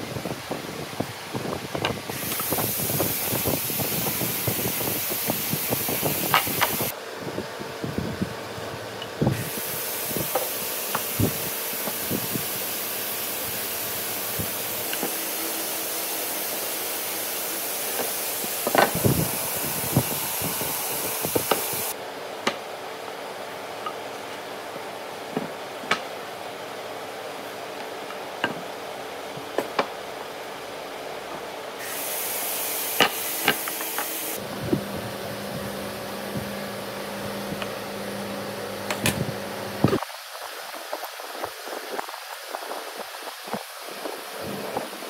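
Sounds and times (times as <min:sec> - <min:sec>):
steady hiss: 0:00.0 - 0:07.0, 0:09.2 - 0:34.8, 0:39.8 - 0:45.0.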